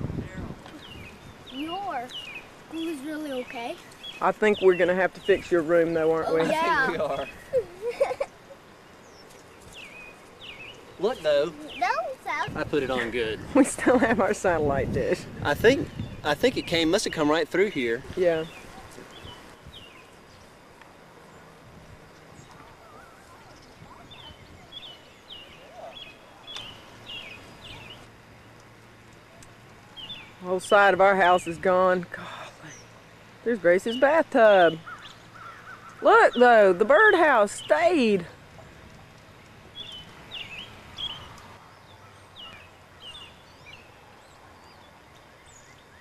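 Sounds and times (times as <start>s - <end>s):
faint outdoor hiss: 0.0s - 46.0s
bird chirping: 0.7s - 14.1s, 15.5s - 46.0s.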